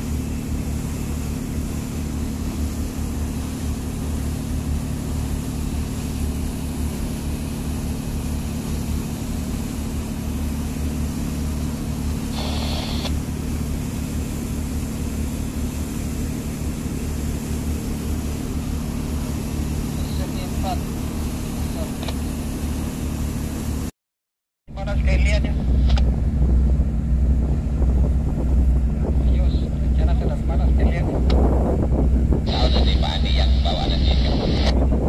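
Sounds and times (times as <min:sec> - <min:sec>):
boat engine droning: 0:00.0 - 0:23.9, 0:24.7 - 0:35.0.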